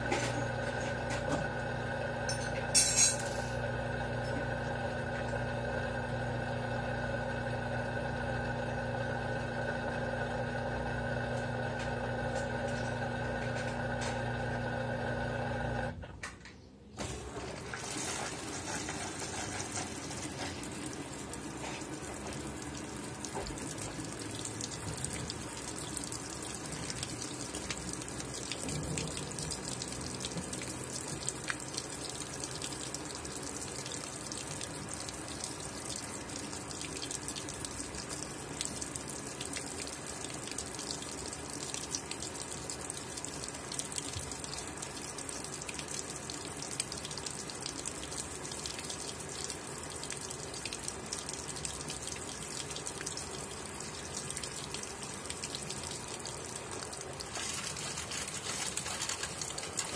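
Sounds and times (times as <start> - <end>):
water splashing into washing machine: 0.0 - 15.9, 17.0 - 59.9.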